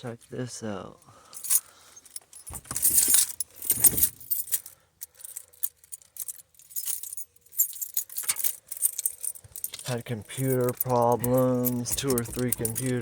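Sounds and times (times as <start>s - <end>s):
handling rustle: 1.2s - 13.0s
keys jangling: 1.3s - 13.0s.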